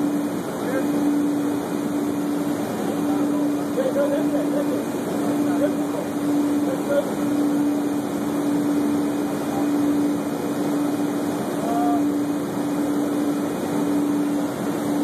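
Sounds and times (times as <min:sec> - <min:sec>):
heavy industrial machinery rumbling: 0:00.0 - 0:15.0.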